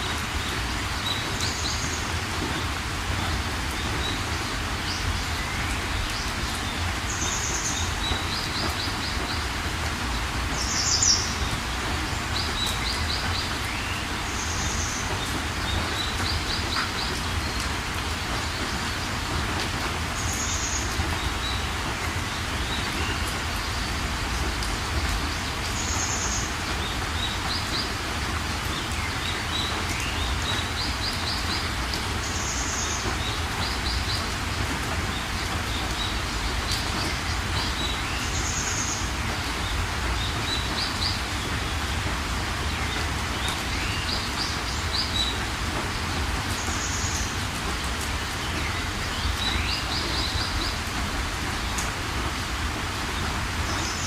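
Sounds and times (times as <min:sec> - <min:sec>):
birds calling and trilling: 0:00.0 - 0:54.0
steady rain: 0:00.0 - 0:54.0.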